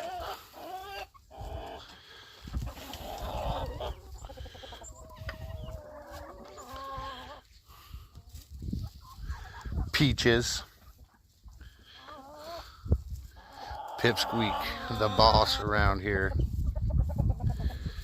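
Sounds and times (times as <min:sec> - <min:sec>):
poultry clucking: 0:00.0 - 0:18.0.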